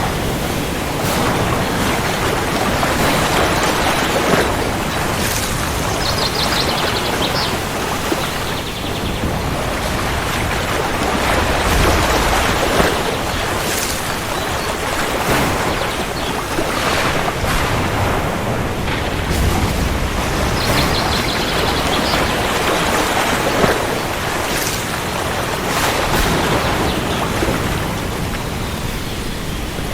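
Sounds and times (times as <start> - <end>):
heavy rain: 0.0 - 29.9
low thunder rumbling: 0.0 - 29.9.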